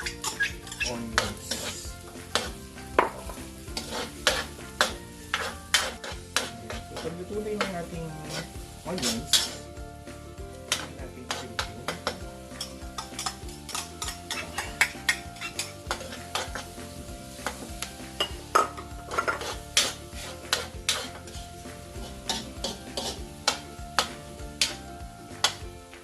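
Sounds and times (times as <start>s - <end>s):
utensil striking a pan: 0.0s - 9.8s, 10.4s - 25.7s
onions sauteing in a pan: 0.0s - 26.0s.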